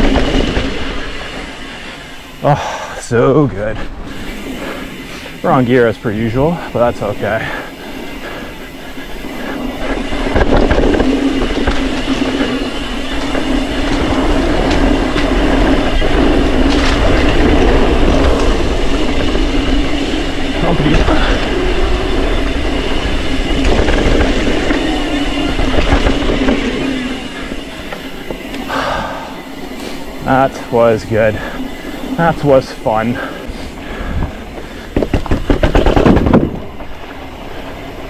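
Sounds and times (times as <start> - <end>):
bike chain rattling: 0.0 - 38.0
bike tyres rolling on dirt: 0.0 - 38.0
wind rumbling on microphone: 0.0 - 38.0.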